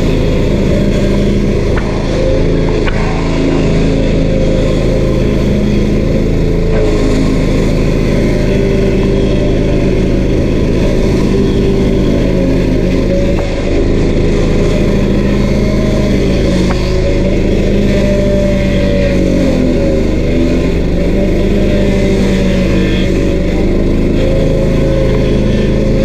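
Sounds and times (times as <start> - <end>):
stump grinder engine running: 0.0 - 26.0.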